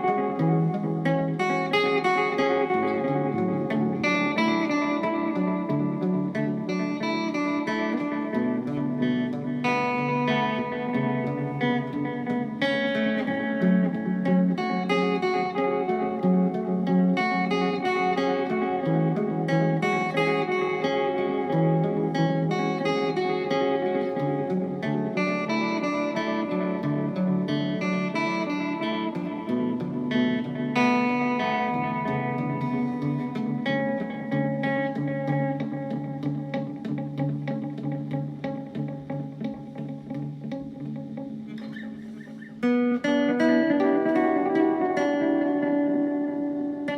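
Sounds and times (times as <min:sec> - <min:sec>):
guitar notes through tape echo: 0:00.0 - 0:46.9.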